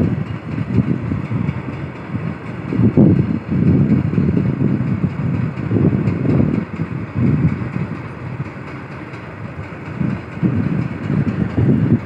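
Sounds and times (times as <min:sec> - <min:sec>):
freight train rumbling past: 0:00.0 - 0:12.0
wind buffeting microphone: 0:00.0 - 0:12.0.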